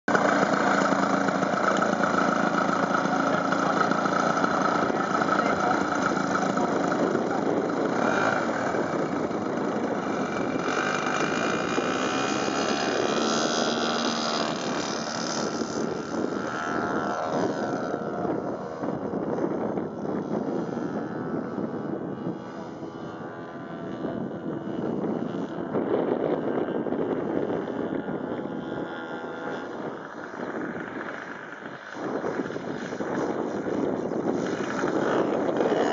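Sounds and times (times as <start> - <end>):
model plane engine droning: 0.1 - 35.9.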